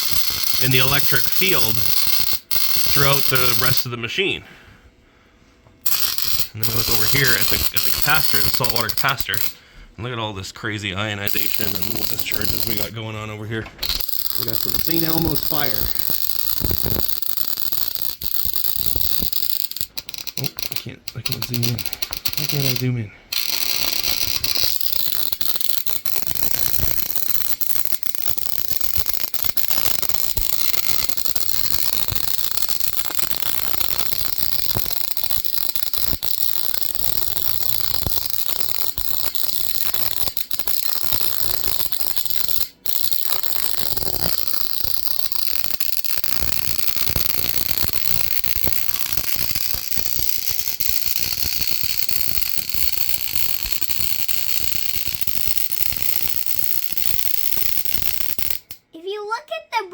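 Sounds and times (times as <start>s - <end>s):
electric spark crackling and hissing: 0.0s - 4.4s, 5.8s - 9.6s, 10.6s - 59.0s.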